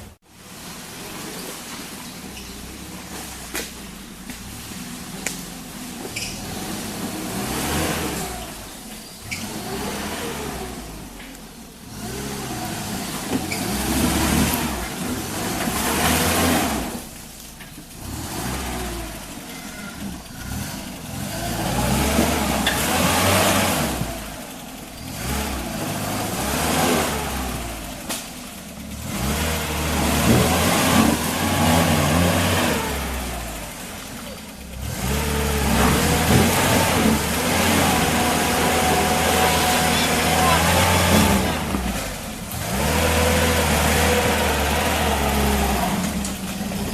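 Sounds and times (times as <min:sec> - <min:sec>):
off-road engine revving: 0:00.0 - 0:46.9.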